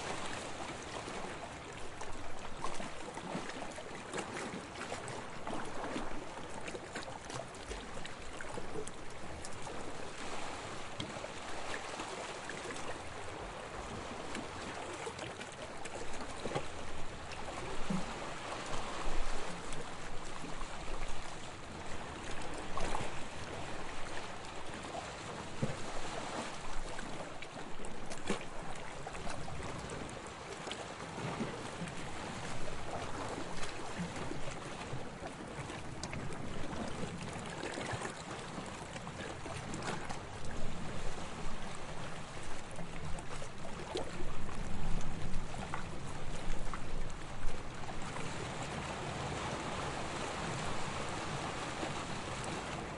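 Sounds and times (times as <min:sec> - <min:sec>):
small waves lapping on shore: 0:00.0 - 0:52.9
water splashes and trickles: 0:00.0 - 0:52.9.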